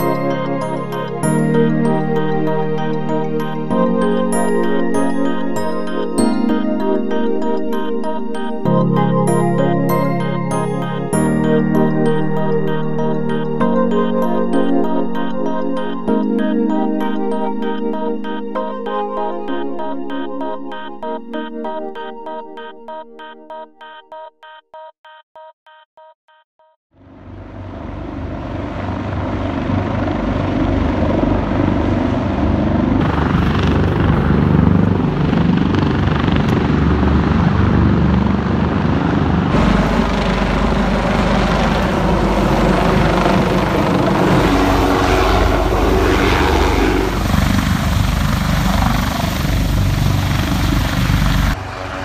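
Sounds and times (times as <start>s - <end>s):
helicopter rotor and turbine noise: 0.0s - 22.7s, 27.1s - 52.0s.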